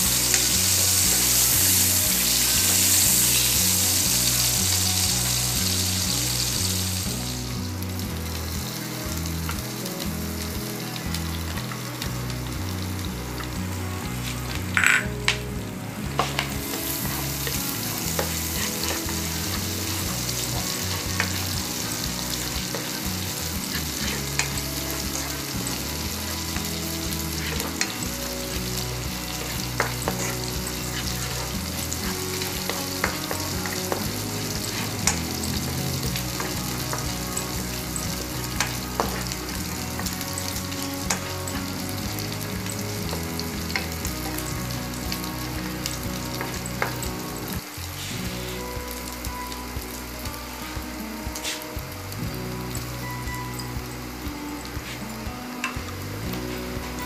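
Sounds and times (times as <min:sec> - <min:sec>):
garlic sizzling in a pan: 0:00.0 - 0:57.0.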